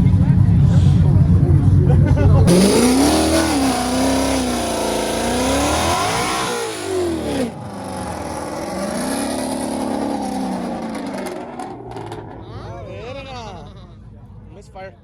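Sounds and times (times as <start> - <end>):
vehicle engine revving: 0.0 - 12.9.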